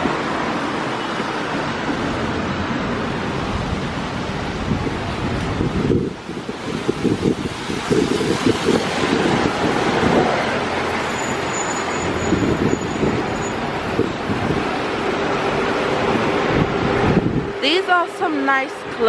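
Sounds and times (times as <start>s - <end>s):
wind buffeting microphone: 0.0s - 17.8s
passing vehicles rumbling: 0.0s - 19.0s.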